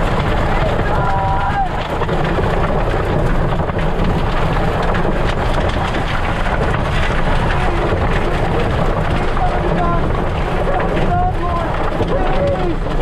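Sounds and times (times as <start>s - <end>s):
heavy rain: 0.0s - 13.0s
wind: 0.0s - 13.0s.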